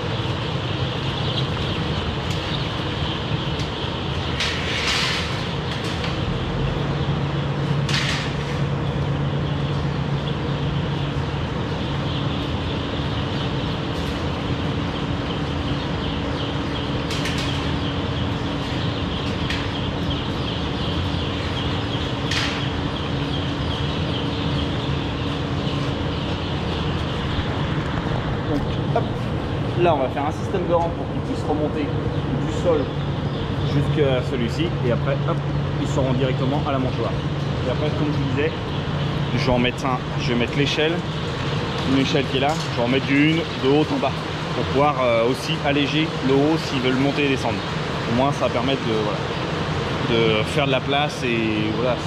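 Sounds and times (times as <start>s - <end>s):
chicks peeping: 0.0s - 52.0s
steady mechanical hum: 0.0s - 52.0s.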